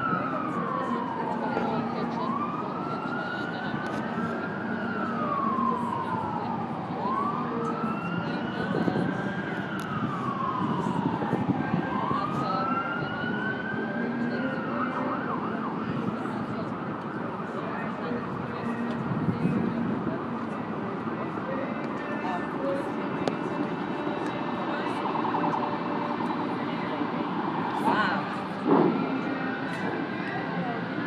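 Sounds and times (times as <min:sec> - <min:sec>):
emergency siren wailing: 0:00.0 - 0:31.0
steady background noise: 0:00.0 - 0:31.0.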